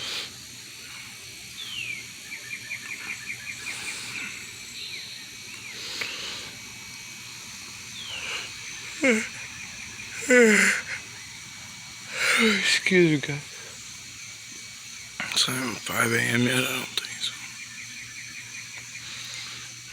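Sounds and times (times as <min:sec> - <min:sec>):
faint insect trill: 0:00.0 - 0:19.9
bird singing: 0:00.8 - 0:05.9, 0:07.6 - 0:19.8.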